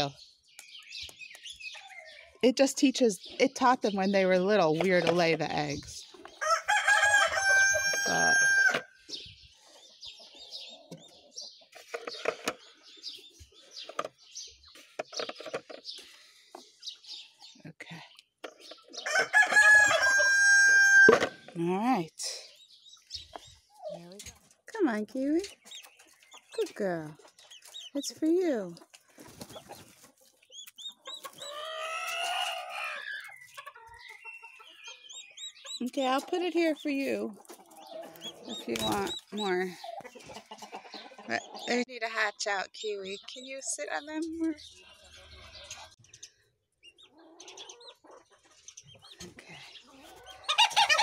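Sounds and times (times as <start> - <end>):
baby chicks peeping: 0.0 - 51.0.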